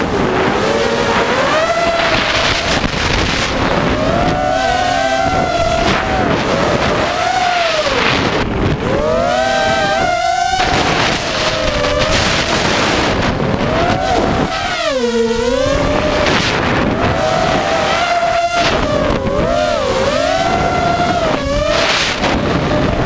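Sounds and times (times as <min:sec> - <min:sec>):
quadcopter motors whining: 0:00.0 - 0:23.0
wind rushing over microphone: 0:00.0 - 0:23.0.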